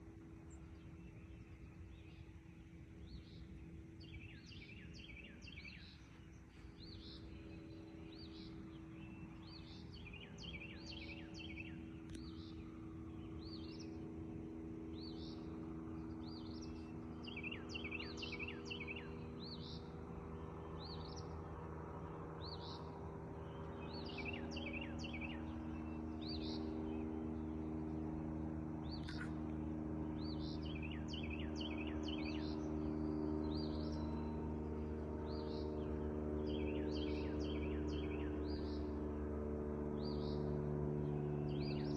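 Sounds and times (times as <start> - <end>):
low droning hum: 0.0 - 41.9
small birds chirping: 0.4 - 39.1, 39.8 - 41.9.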